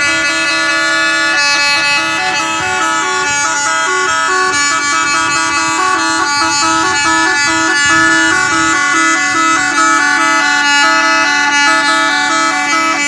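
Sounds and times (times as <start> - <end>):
musical vehicle horn: 0.0 - 13.0.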